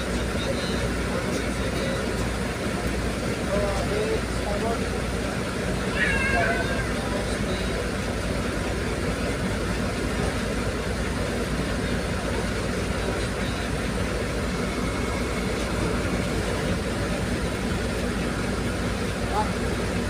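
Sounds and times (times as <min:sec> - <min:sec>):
ferry engines running: 0:00.0 - 0:20.0.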